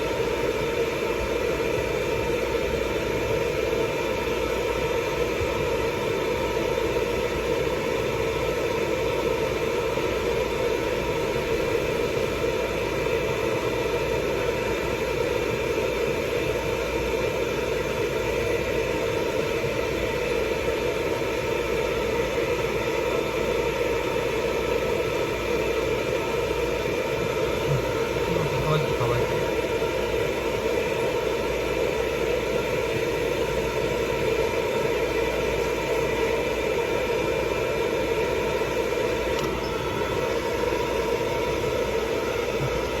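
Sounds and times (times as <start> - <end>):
hair dryer running: 0.0 - 43.0.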